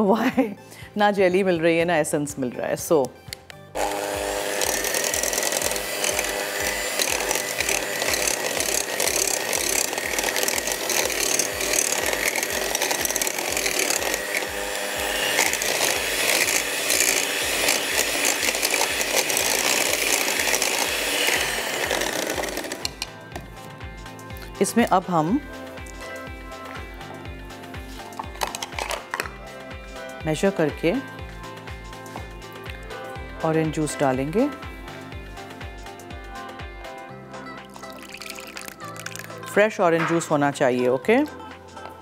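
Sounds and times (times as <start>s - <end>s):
electric hand mixer whining: 3.8s - 36.2s, 37.7s - 39.5s.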